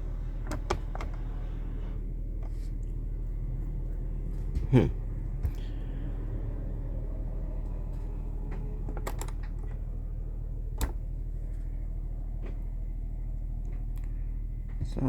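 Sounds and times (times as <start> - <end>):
diesel generator humming: 0.0 - 15.0.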